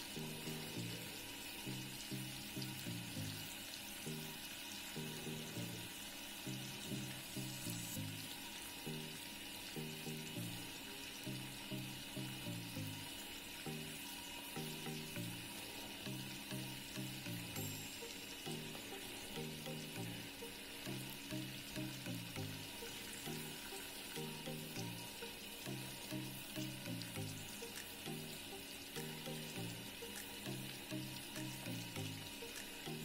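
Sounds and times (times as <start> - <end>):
fish sizzling in oil: 0.0 - 33.0
low rhythmic background music: 0.0 - 33.0.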